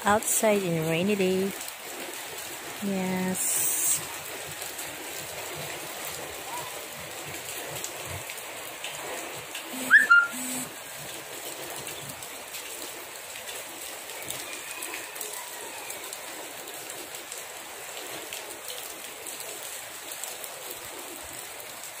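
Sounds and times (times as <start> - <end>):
water running over road: 0.0 - 22.0.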